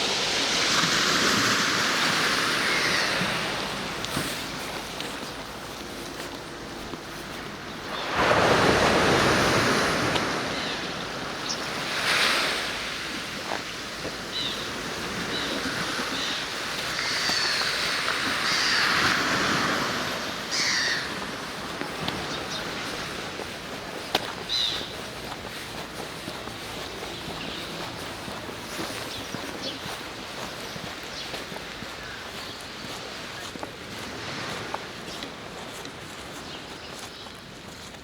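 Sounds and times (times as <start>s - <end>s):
sea waves breaking on shore: 0.0s - 37.0s.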